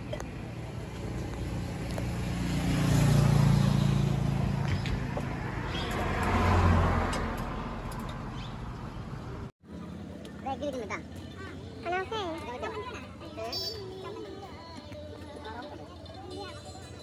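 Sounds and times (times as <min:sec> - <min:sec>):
vehicles passing on road: 0:00.0 - 0:17.0.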